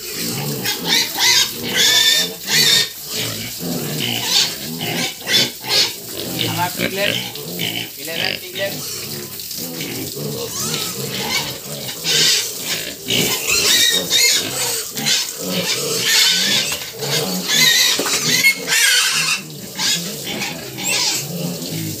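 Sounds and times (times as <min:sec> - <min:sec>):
piglets squealing: 0:00.0 - 0:21.9
piglets grunting: 0:00.0 - 0:22.0.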